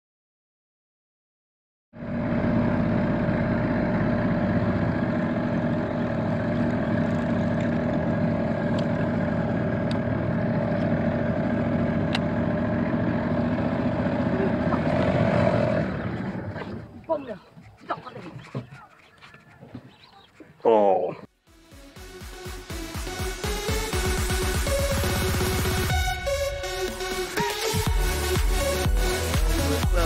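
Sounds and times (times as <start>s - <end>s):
outboard motor droning: 2.0s - 21.3s, 22.0s - 30.0s.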